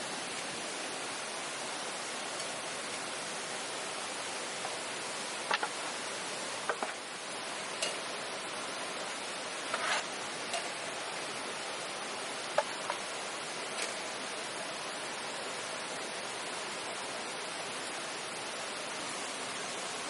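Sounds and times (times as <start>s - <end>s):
steady rushing hiss: 0.0s - 20.0s.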